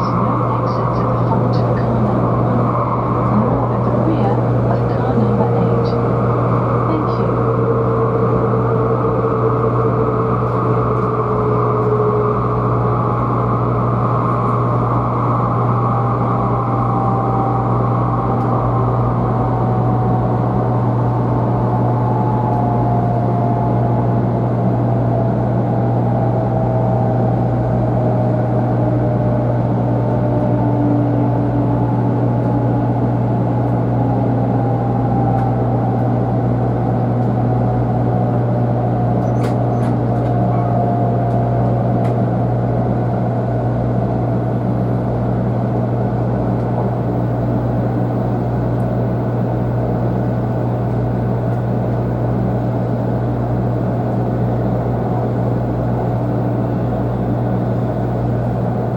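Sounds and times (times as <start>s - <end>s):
train motor whine: 0.0s - 58.9s
train running hum: 0.0s - 58.9s.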